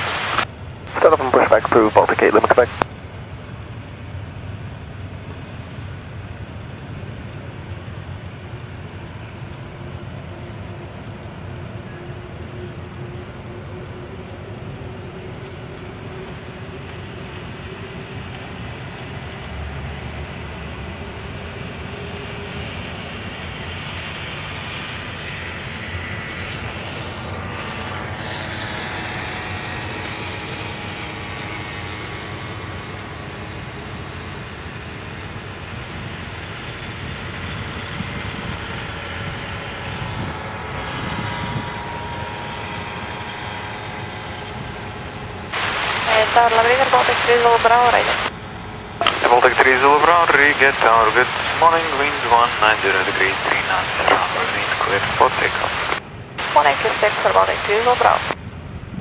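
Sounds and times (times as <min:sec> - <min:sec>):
turboprop engines whining: 0:00.0 - 0:59.0.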